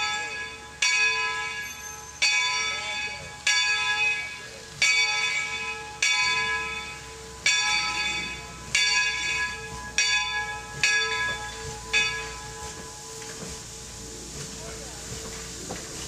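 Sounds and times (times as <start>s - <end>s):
steam locomotive bell ringing: 0.0s - 16.0s.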